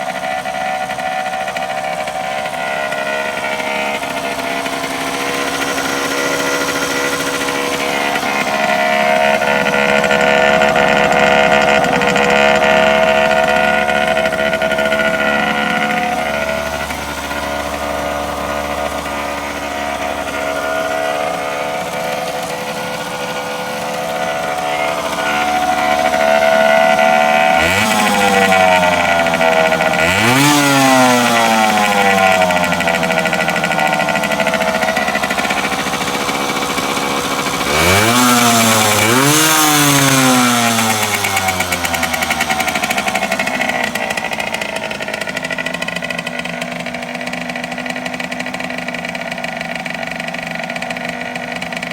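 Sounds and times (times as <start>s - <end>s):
engine revs rising sharply: 0.0s - 51.9s
small two-stroke engine idling: 0.0s - 51.9s.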